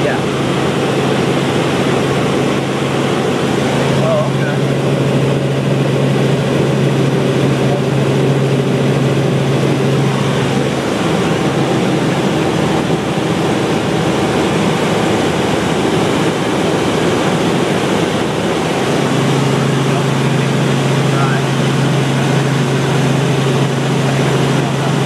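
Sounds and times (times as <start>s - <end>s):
helicopter engine and rotor drone: 0.0s - 25.0s
low hum: 0.0s - 25.0s.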